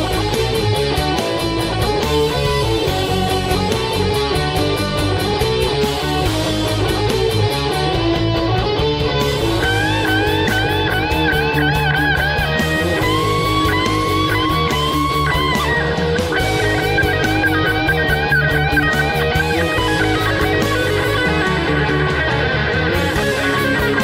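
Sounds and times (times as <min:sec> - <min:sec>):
heavy metal band playing: 0:00.0 - 0:24.0
lead guitar bending notes: 0:00.0 - 0:24.0.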